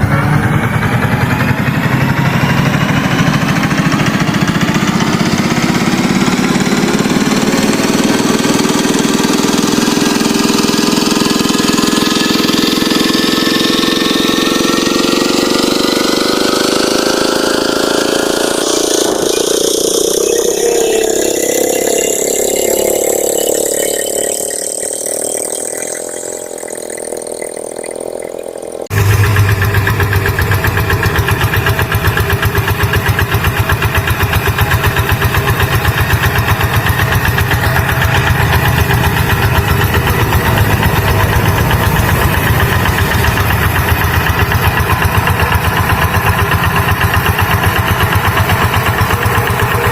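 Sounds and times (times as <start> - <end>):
tractor engine chugging: 0.0 - 49.9.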